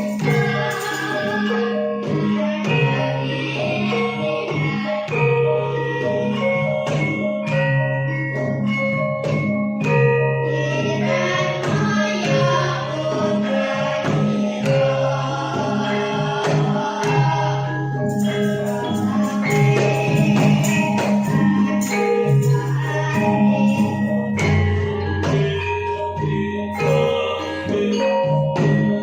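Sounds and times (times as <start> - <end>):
person singing melody: 0.0 - 6.5, 10.5 - 29.0
struck metal mallet instruments: 0.0 - 29.0.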